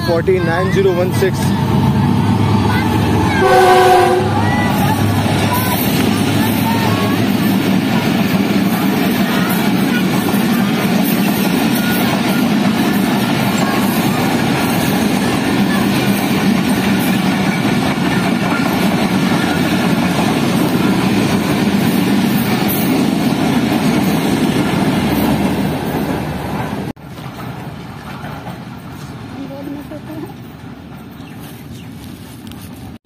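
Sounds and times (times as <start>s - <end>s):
train coaches rushing over rails: 0.0s - 33.0s.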